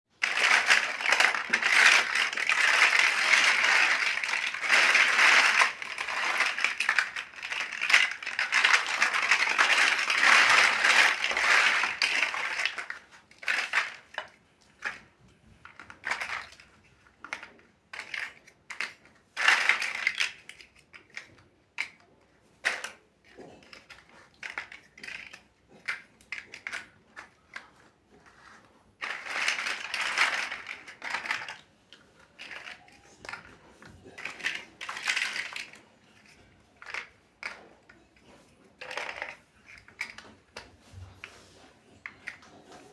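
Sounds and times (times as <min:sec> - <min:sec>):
plastic bricks clattering: 0:00.2 - 0:41.3.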